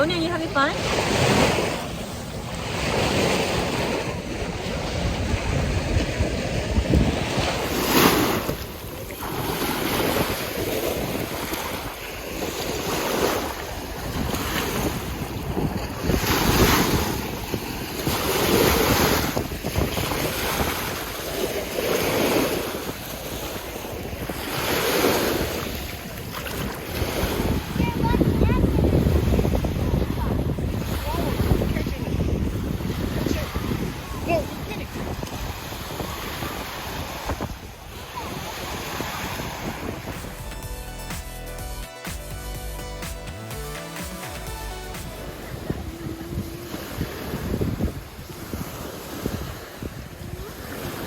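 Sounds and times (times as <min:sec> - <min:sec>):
waves washing onto shore: 0:00.0 - 0:40.6, 0:43.7 - 0:51.0
wind rumbling on microphone: 0:00.0 - 0:40.7, 0:45.3 - 0:51.0.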